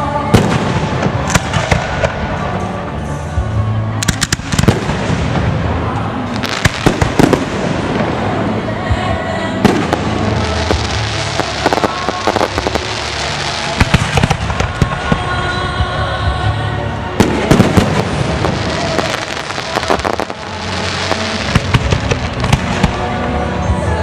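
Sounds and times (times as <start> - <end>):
music playing: 0.0 - 24.0
fireworks bangs and crackles: 0.3 - 3.0, 4.0 - 15.5, 17.2 - 23.4.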